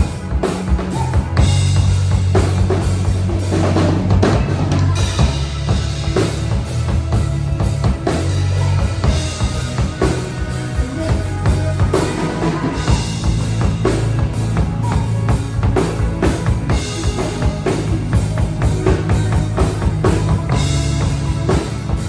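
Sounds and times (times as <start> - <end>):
deep bass notes: 0.0 - 22.0
drum kit beat: 0.0 - 22.0
live rock band: 0.0 - 22.0.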